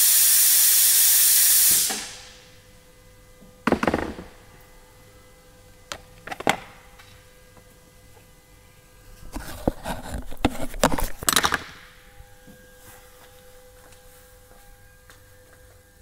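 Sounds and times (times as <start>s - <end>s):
faint steady hum: 1.8s - 16.0s.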